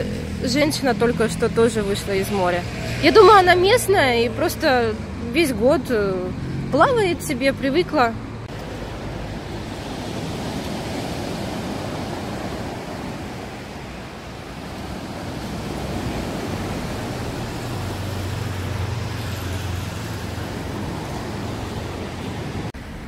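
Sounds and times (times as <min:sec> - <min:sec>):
road traffic: 0:00.0 - 0:23.0
sea surf on shore: 0:00.0 - 0:23.0
vehicle engine hum: 0:00.0 - 0:23.0.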